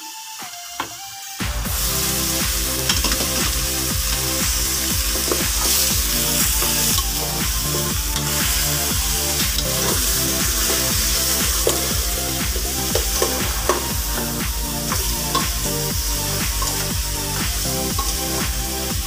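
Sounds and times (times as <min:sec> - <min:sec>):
background music with steady beat: 0:00.0 - 0:19.0
chicken sizzling in a pot: 0:00.0 - 0:19.0.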